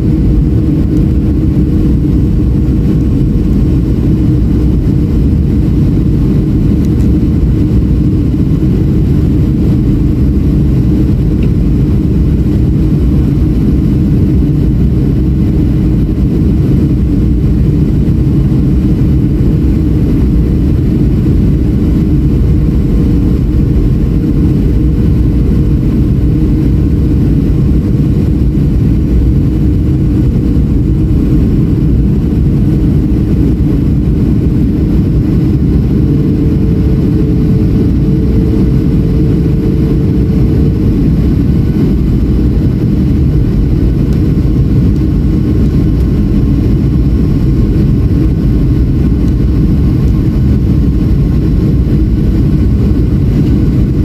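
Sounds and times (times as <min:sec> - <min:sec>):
faint constant hum: 0:00.0 - 0:54.0
jet engine cabin rumble: 0:00.0 - 0:54.0.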